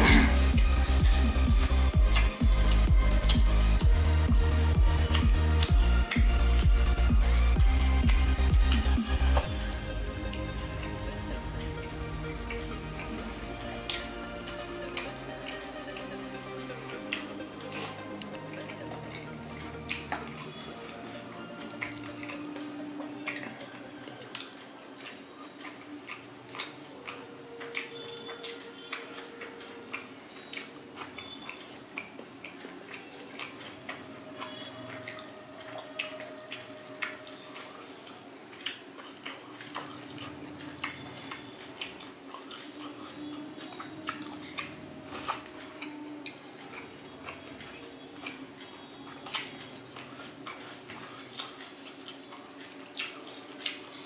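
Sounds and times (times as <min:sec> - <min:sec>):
mouth sounds of eating: 0:00.0 - 0:09.6, 0:11.2 - 0:54.0.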